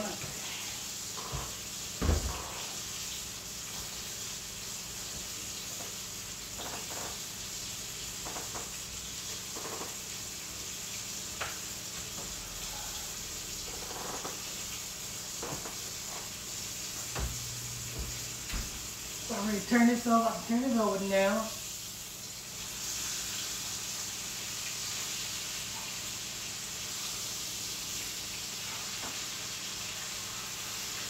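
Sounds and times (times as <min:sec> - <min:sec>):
chicken sizzling in a skillet: 0:00.0 - 0:31.0.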